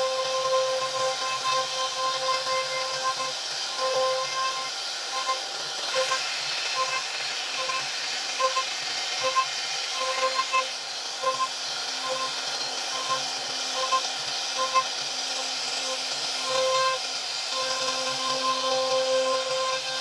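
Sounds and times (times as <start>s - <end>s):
router spindle whining: 0.0s - 20.0s.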